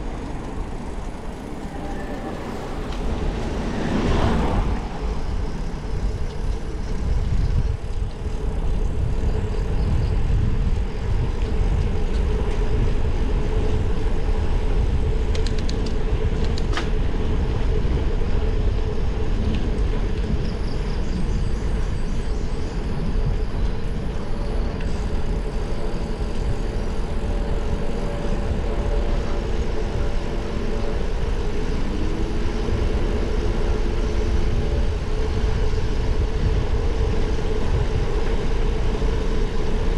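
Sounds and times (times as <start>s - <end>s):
road and wind rumble: 0.0s - 39.9s.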